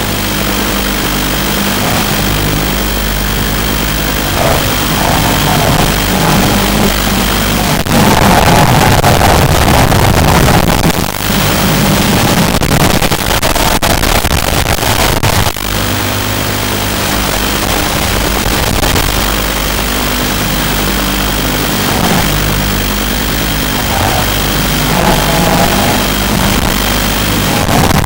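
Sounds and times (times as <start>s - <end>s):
drone propellers buzzing: 0.0s - 13.9s, 15.7s - 28.0s.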